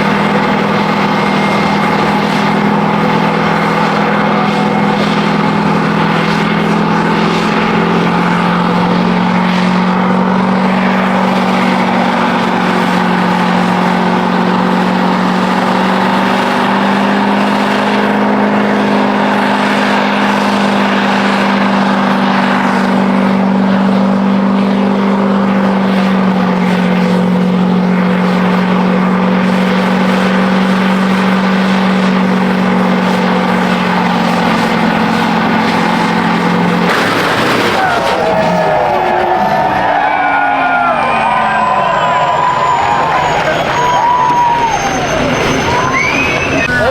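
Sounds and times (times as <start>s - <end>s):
truck engine at high revs: 0.0s - 46.9s.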